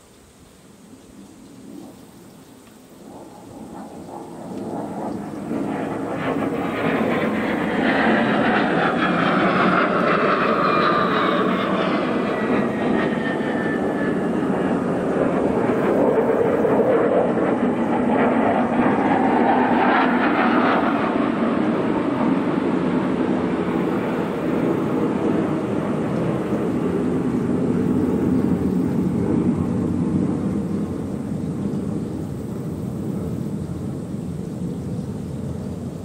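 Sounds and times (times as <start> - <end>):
airplane flying over: 0.7 - 36.0.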